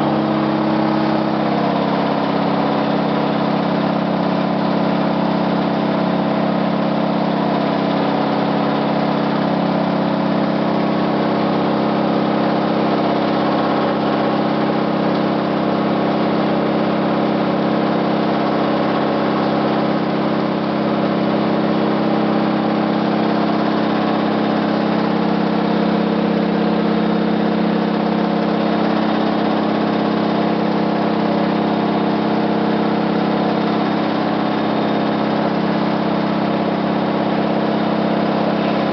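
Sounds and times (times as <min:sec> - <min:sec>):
washing machine drone: 0:00.0 - 0:38.9.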